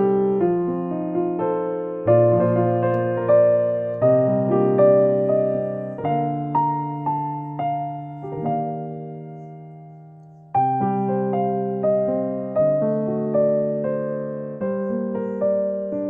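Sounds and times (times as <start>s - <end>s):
gentle electric piano melody: 0.0s - 16.0s.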